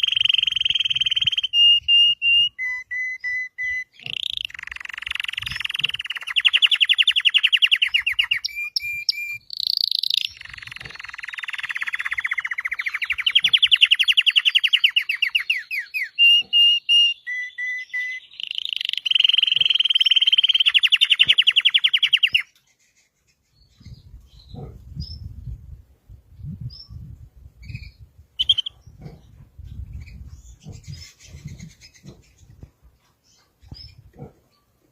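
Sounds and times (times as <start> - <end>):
canary singing trills: 0.0 - 25.5, 26.4 - 34.9.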